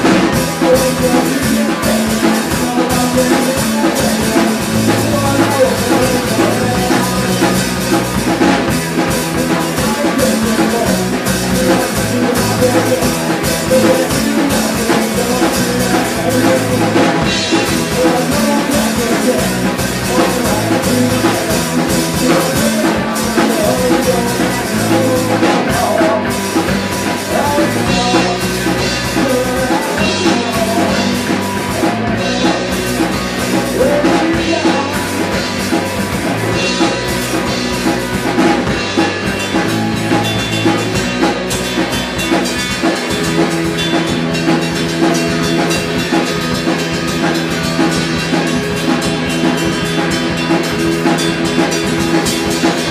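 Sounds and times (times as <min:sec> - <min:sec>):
distorted electric guitar: 0:00.0 - 0:52.9
drum kit: 0:00.0 - 0:52.9
electric bass: 0:00.0 - 0:52.9.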